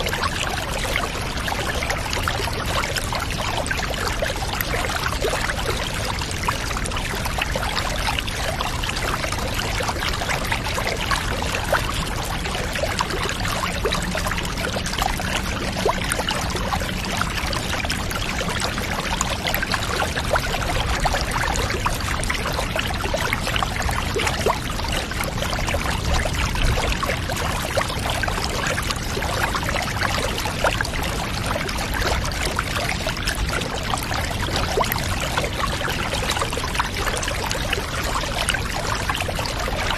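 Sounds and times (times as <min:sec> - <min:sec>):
bath water running and trickling: 0:00.0 - 0:39.9.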